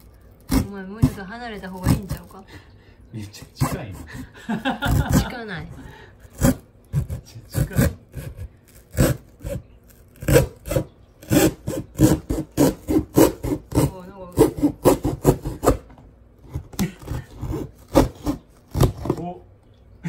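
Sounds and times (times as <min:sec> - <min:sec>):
knife sawing through cardboard: 0:00.4 - 0:02.4, 0:03.4 - 0:05.4, 0:06.2 - 0:19.3.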